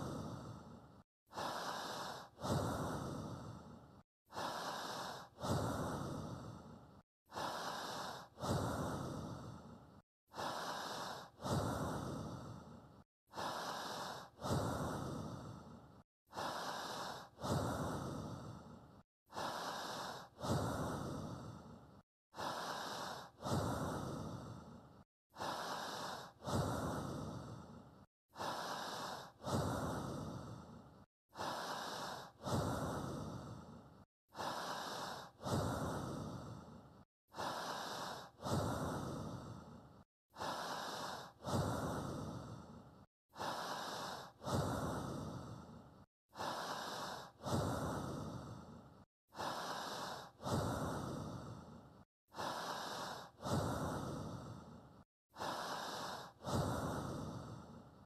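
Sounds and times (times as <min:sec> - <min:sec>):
person breathing: 0:00.0 - 0:58.0.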